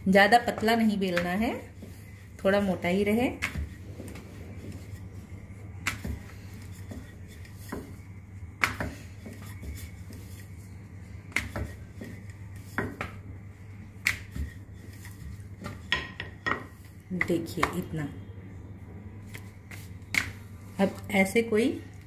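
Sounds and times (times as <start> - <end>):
rolling pin rolling dough: 0.0 - 18.1, 19.0 - 21.4
steady low hum: 0.0 - 22.0.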